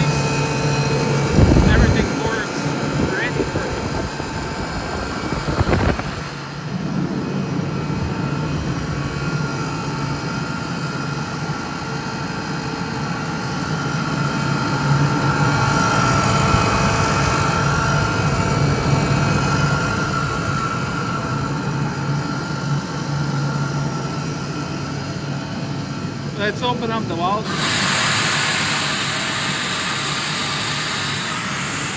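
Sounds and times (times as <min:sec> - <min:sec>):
air compressor humming and whining: 0:00.0 - 0:31.9.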